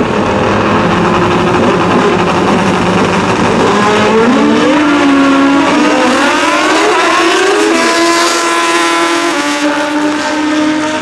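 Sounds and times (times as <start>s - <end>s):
drag racing motorcycles full throttle: 0.0s - 11.0s.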